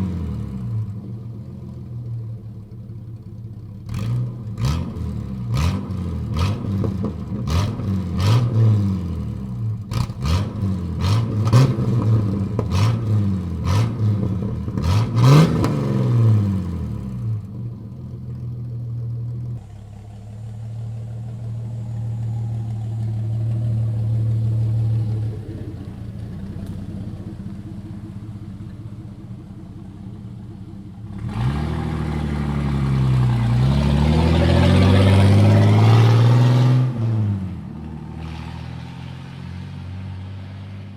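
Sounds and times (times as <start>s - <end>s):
car engine revving: 3.8s - 17.7s, 19.4s - 40.9s.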